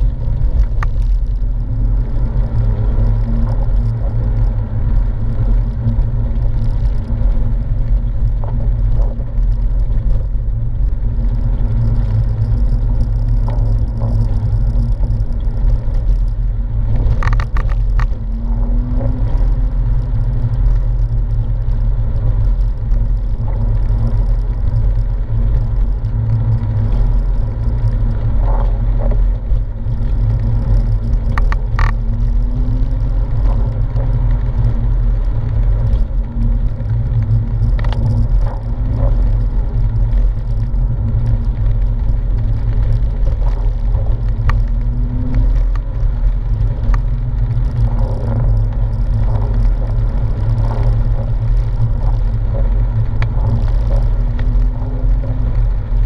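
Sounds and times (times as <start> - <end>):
car engine running: 0.0 - 56.0
road and tyre noise: 0.0 - 56.0.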